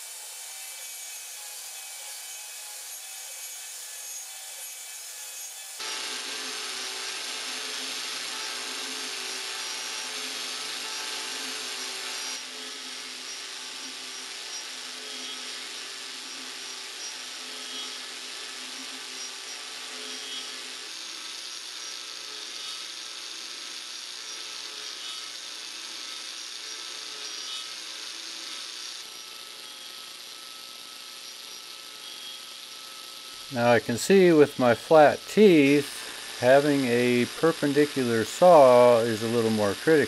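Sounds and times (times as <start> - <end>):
angle grinder cutting wood: 0.0 - 40.0.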